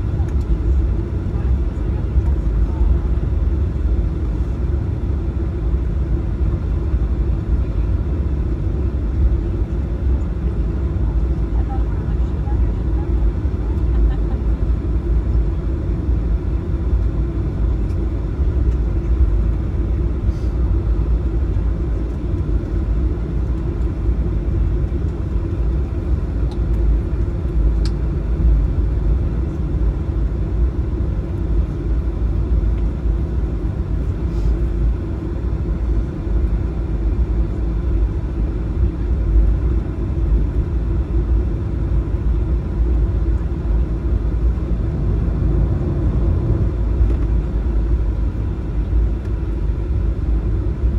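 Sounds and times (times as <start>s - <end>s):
airplane rolling on taxiway: 0.0s - 50.9s
jet engines idling: 0.0s - 50.9s.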